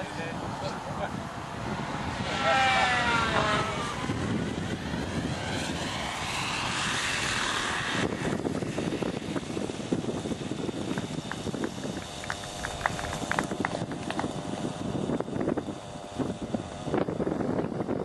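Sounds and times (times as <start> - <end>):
rc helicopter engine and rotors: 0.0 - 18.0.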